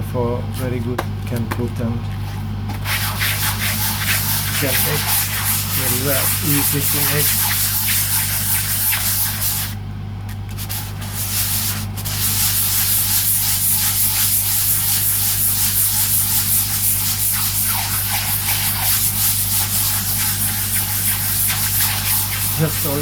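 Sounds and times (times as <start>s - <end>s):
sandpaper rasping on wood: 2.9s - 9.8s, 10.6s - 23.0s.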